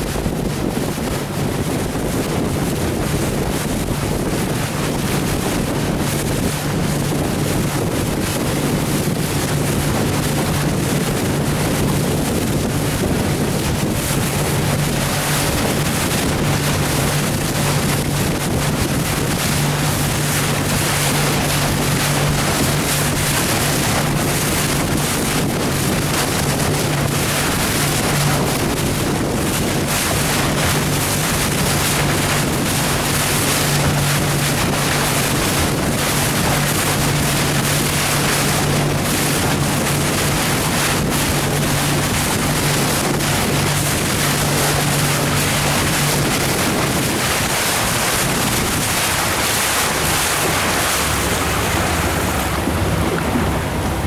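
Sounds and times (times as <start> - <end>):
motorboat engine hum: 0.0 - 54.0
water splashing: 0.0 - 54.0
wind noise on microphone: 0.0 - 54.0.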